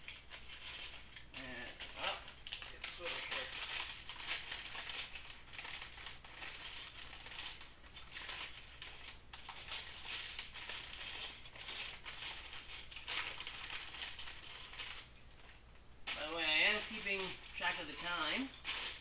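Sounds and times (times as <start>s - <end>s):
plastic toy bricks rattling: 0.1s - 19.0s.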